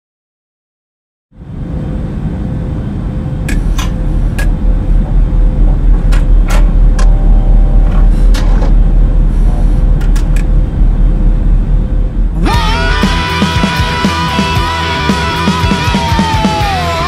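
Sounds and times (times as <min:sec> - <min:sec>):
loud deep rumble: 0:01.3 - 0:17.0
steady hum: 0:01.3 - 0:17.0.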